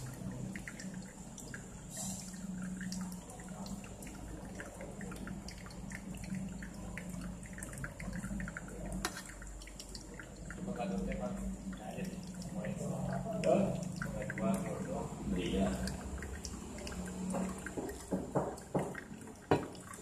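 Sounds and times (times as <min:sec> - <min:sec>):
small irregular drips: 0:00.0 - 0:20.0
water trickling onto coffee grounds: 0:00.0 - 0:20.0.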